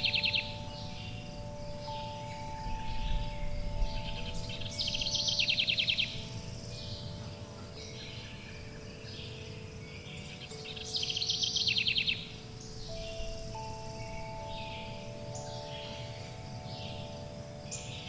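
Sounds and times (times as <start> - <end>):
bird chirps: 0.0 - 18.0
songbird trilling: 0.0 - 18.0
wind chimes ringing: 0.0 - 18.0.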